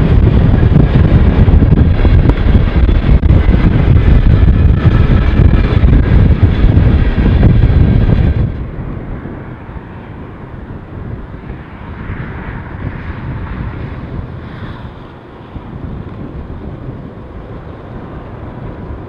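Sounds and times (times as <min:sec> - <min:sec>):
freight train rumbling past: 0:00.0 - 0:19.0
wind on microphone: 0:00.0 - 0:19.0.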